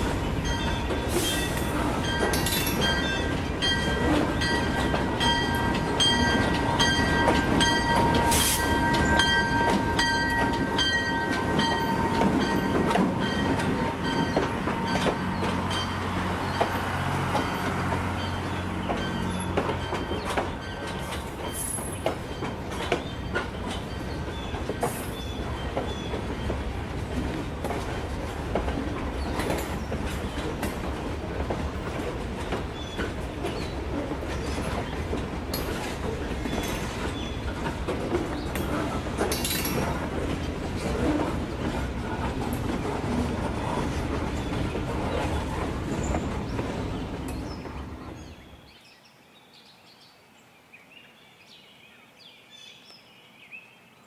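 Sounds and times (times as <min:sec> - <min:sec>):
wheels clicking over rail joints: 0:00.0 - 0:48.6.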